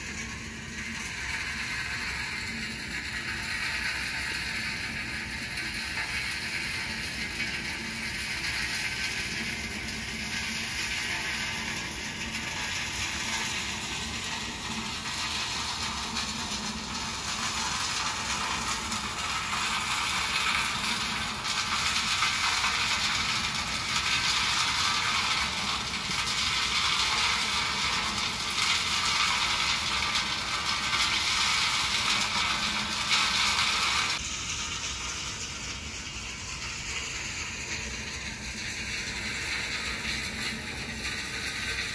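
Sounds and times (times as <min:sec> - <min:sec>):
ice plant mechanical noise: 0:00.0 - 0:41.9.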